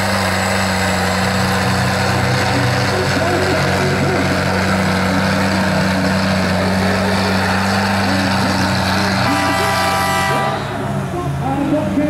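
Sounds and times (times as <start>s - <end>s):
diesel engine under full load: 0.0s - 12.0s.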